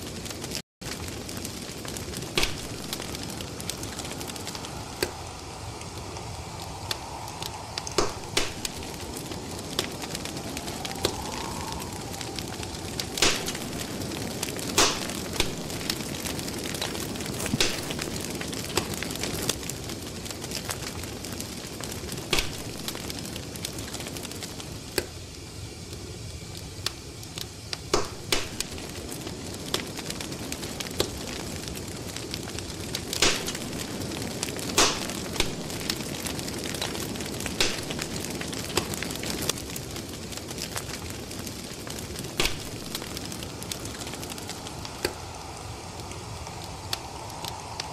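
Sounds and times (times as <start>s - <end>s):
crackling fire: 0.0s - 47.9s.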